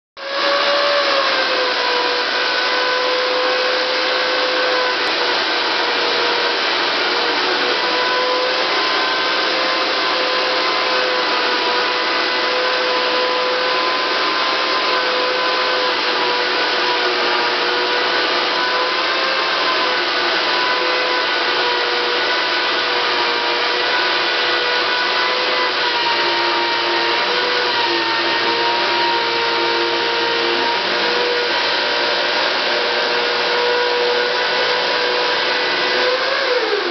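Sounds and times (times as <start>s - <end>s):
woodworking machine cutting wood: 0.2s - 36.9s.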